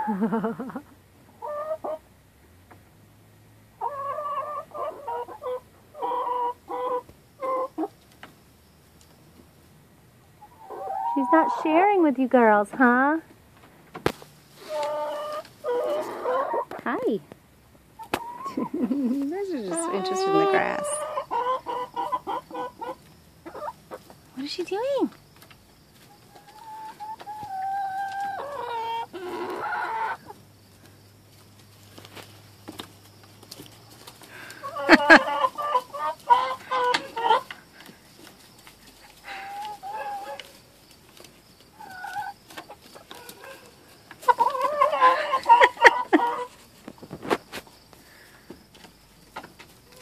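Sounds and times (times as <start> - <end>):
hens clucking and squawking: 0.0 - 2.2, 3.7 - 9.6, 10.2 - 12.1, 14.1 - 17.1, 17.8 - 50.0.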